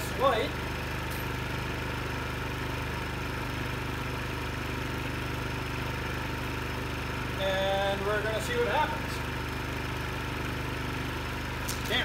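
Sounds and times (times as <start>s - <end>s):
generator idling: 0.0s - 12.0s.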